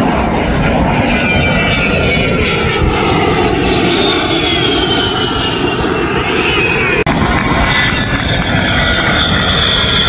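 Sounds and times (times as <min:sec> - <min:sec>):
jet aircraft roaring past: 0:00.0 - 0:10.0.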